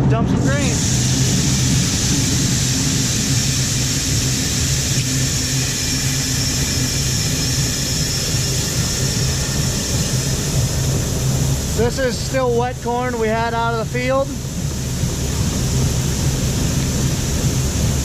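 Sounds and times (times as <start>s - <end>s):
farm machine engine running: 0.0s - 18.0s
steady high hiss: 0.4s - 18.0s.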